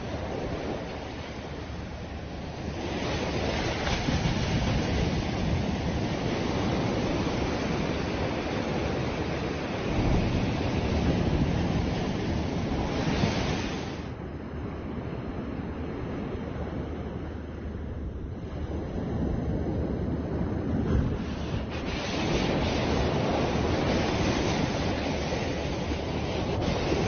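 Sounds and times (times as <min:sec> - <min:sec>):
sea surf breaking on shore: 0:00.0 - 0:27.0
wind on microphone: 0:00.0 - 0:27.0.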